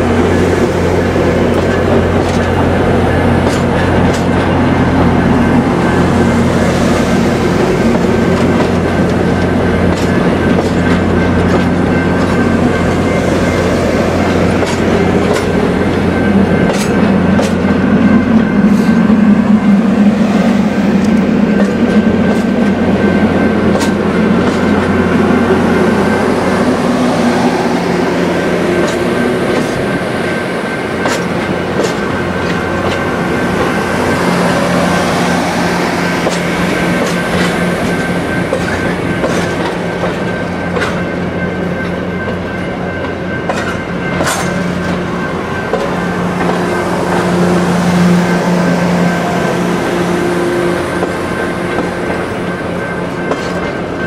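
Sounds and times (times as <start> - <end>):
low hum from train: 0.0 - 54.0
train wheels clicking over rail joints: 0.0 - 54.0.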